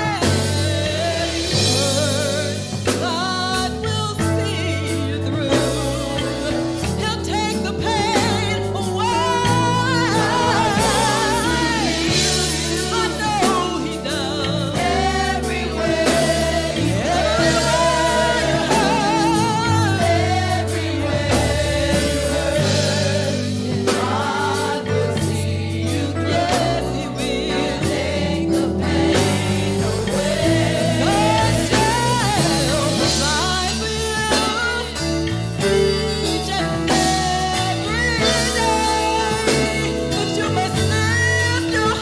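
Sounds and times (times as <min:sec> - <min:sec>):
gospel singer: 0:00.0 - 0:42.0
organ-like bass chords: 0:00.0 - 0:42.0.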